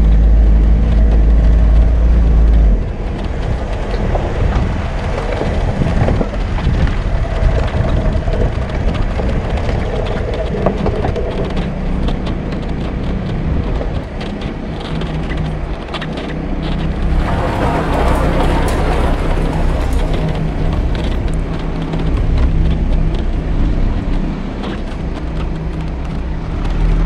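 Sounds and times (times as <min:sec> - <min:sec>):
stones cracking under tyres: 0:00.0 - 0:27.0.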